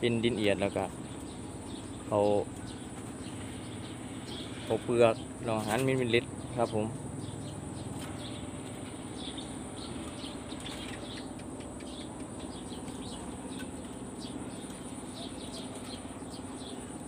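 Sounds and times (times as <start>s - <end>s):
faint bird chirps: 0.0s - 17.0s
high insect drone: 0.0s - 17.0s.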